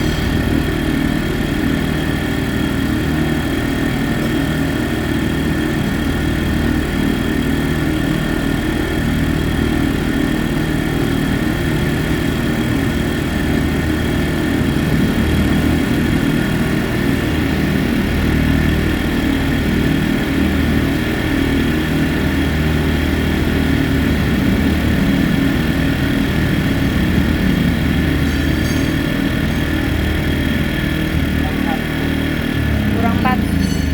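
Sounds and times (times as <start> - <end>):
constant high whine: 0.0 - 33.9
generator engine running: 0.0 - 33.9.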